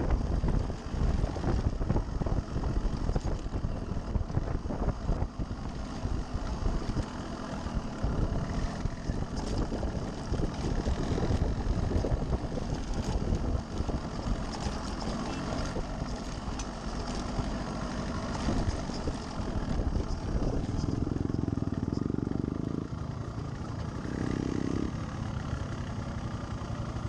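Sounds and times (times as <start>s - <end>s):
two-stroke motorcycle engine: 0.0s - 27.0s.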